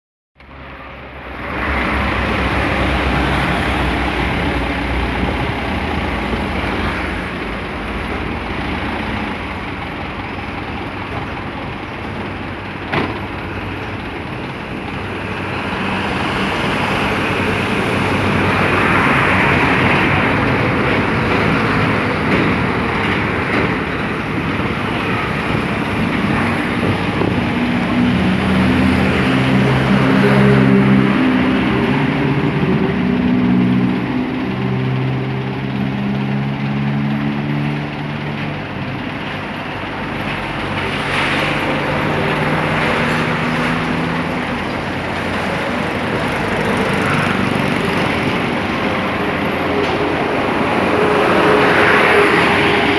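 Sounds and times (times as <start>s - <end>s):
truck engine running: 1.2s - 52.9s.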